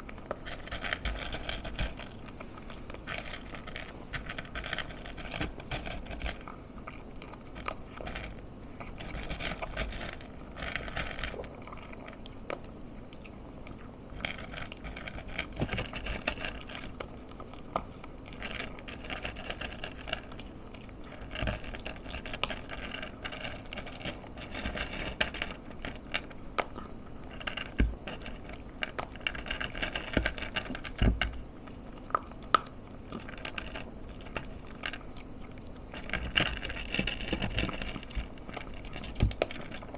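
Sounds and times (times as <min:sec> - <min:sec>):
dog chewing and lapping: 0:00.0 - 0:39.9.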